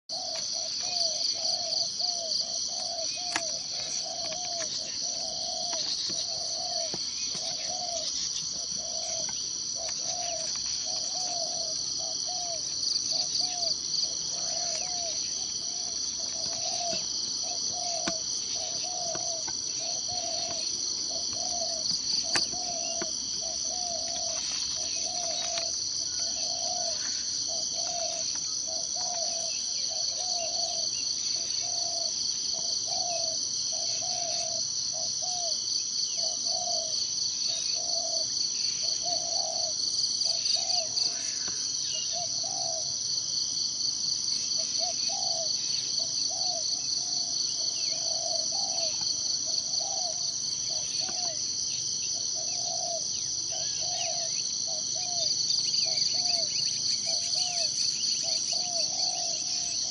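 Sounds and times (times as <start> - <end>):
low repeated animal call: 0.1 - 43.2, 44.3 - 59.9
pulsing insect chorus: 0.1 - 59.9.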